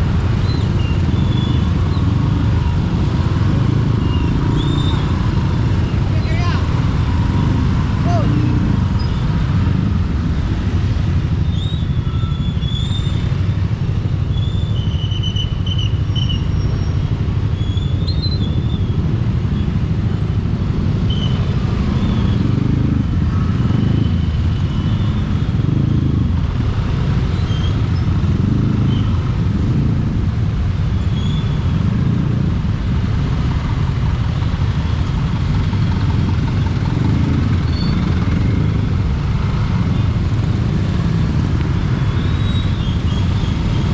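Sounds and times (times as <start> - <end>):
motorcycle engine: 0.0 - 14.7, 15.9 - 43.9.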